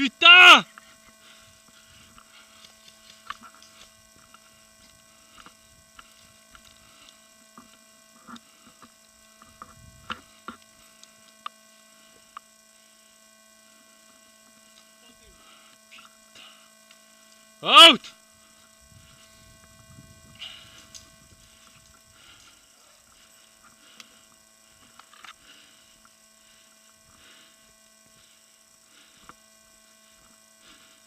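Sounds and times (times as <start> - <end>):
steady electrical hum: 0.0 - 31.0.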